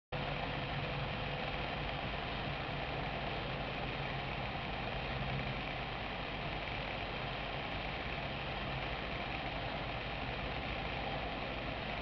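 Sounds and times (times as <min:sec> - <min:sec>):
low even hum: 0:00.2 - 0:12.0.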